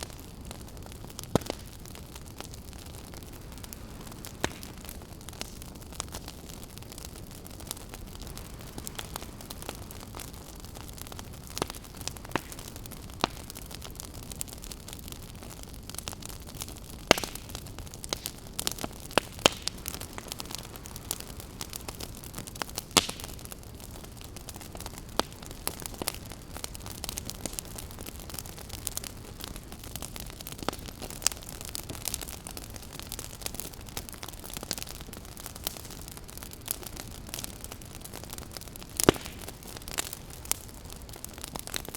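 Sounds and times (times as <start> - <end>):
campfire crackling: 0.0 - 41.9
fire snaps and pops: 0.0 - 41.9.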